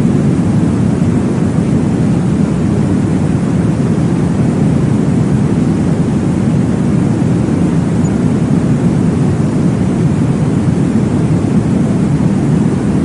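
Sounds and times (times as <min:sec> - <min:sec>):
low whooshing womb noise: 0:00.0 - 0:13.0.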